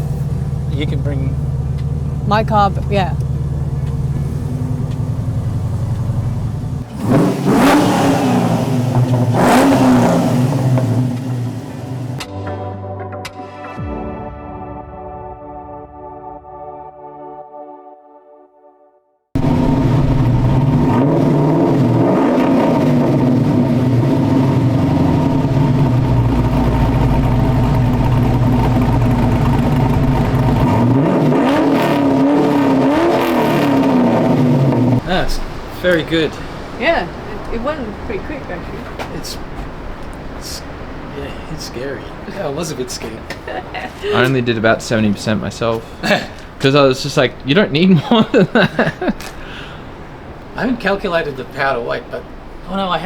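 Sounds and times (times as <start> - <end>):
car engine revving: 0.0 - 12.2, 19.4 - 52.5.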